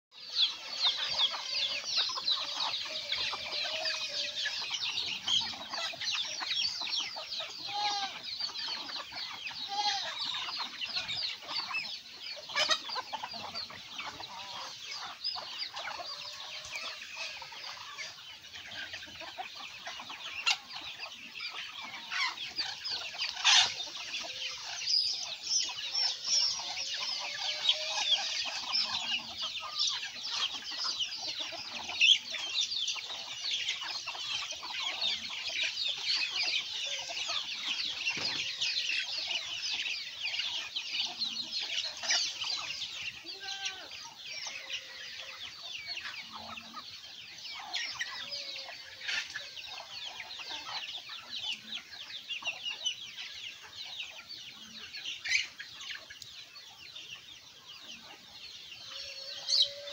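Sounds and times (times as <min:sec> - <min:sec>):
chickens clucking: 0:00.1 - 0:59.9.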